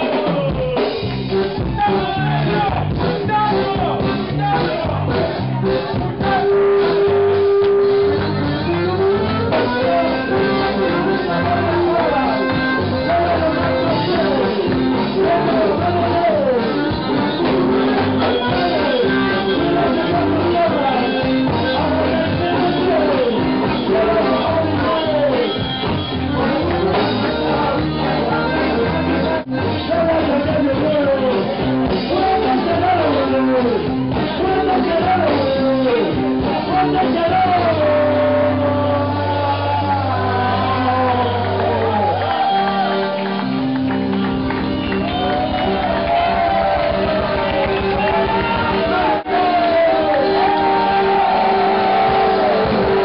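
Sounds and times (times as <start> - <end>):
club crowd: 0.0 - 53.0
live band playing punk with vocals: 0.0 - 53.0.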